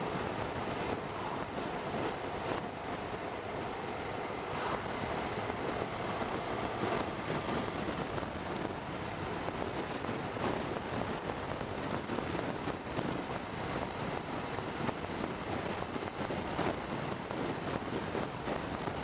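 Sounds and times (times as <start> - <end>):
wind rushing on microphone: 0.0 - 19.0.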